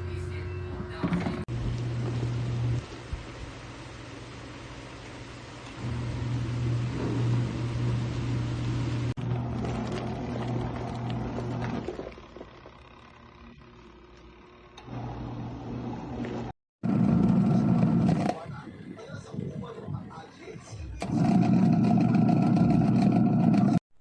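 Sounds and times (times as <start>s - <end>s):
washing machine motor humming: 0.0s - 18.3s, 21.0s - 23.8s.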